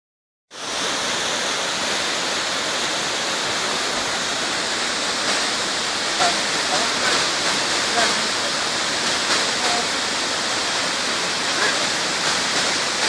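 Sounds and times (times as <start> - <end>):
waterfall rushing: 0.5 - 13.0.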